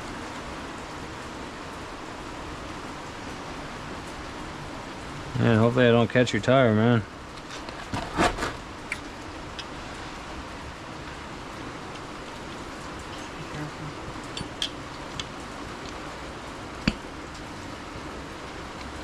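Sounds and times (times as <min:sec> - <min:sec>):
rain hiss: 0:00.0 - 0:07.8, 0:08.5 - 0:19.0.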